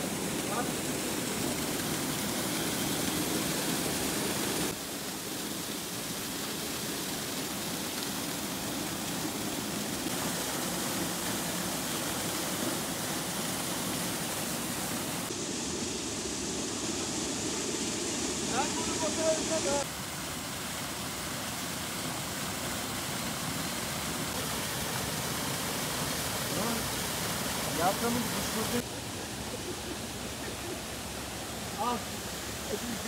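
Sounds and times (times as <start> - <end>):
small waterfall splashing: 0.0 - 15.4, 16.6 - 33.0.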